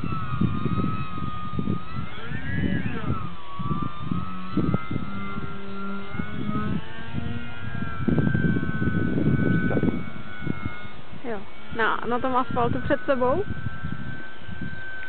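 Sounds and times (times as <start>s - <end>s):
model airplane motor whining: 0.0s - 15.0s
wind buffeting microphone: 0.0s - 15.0s.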